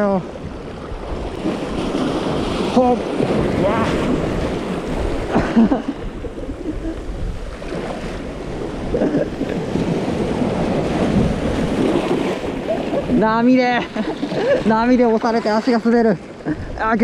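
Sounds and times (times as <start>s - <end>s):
waves washing around rocks: 0.0s - 17.0s
wind buffeting microphone: 0.0s - 17.0s.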